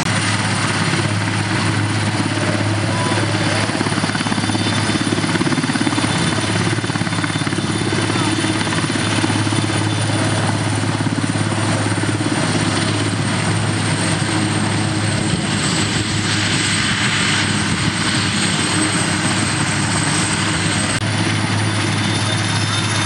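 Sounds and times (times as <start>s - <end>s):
helicopter rotor thrum: 0.0s - 23.0s
high turbine whine: 0.0s - 23.0s.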